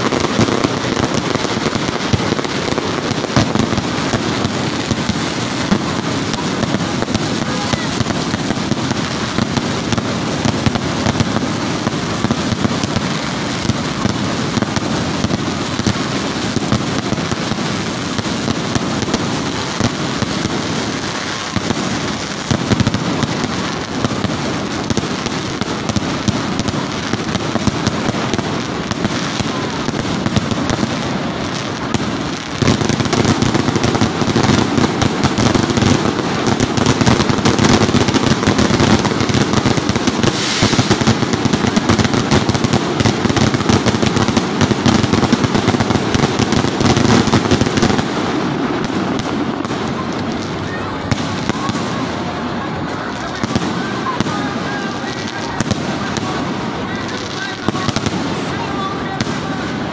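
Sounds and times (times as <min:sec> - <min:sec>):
fireworks crackling and bursting: 0:00.0 - 0:59.9.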